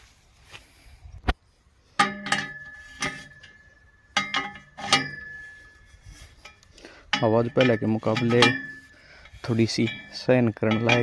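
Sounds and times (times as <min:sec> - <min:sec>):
metal tool clinking on metal: 0:02.0 - 0:11.0.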